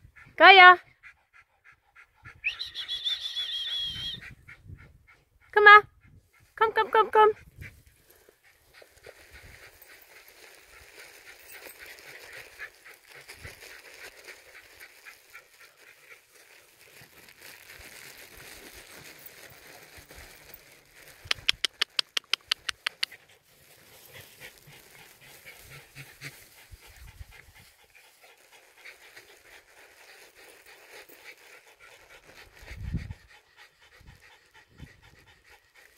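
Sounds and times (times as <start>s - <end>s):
dogs panting: 0.0s - 2.5s, 4.0s - 35.9s.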